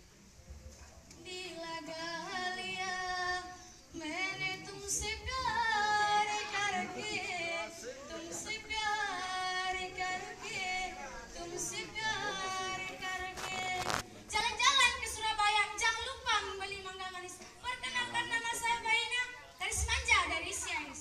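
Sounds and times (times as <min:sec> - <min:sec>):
girl singing into a microphone: 0:01.2 - 0:21.0.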